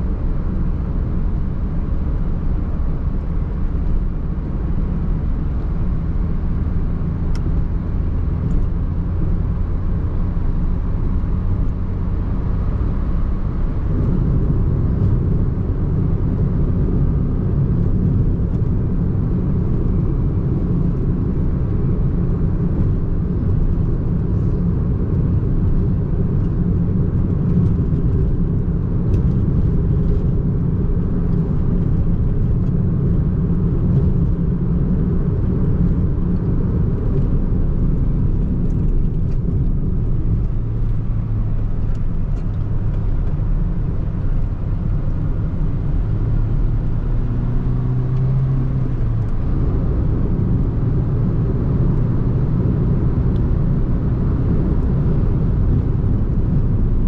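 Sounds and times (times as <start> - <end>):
car engine running: 0.0 - 57.0
low road rumble: 0.0 - 57.0.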